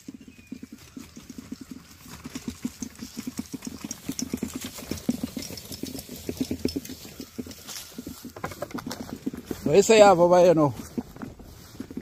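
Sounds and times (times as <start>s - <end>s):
wagon wheels clattering over grass: 0.0s - 12.0s.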